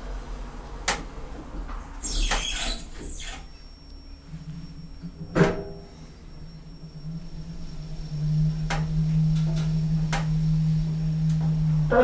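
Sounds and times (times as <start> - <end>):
low hum of lift drive: 0.0 - 12.0.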